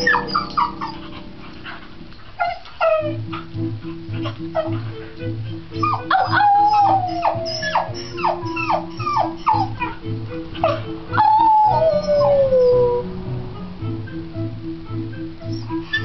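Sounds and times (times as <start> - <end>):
puppy howling and yipping: 0.0 - 1.8, 2.4 - 13.1, 15.5 - 16.0
background music with steady beat: 0.0 - 16.0.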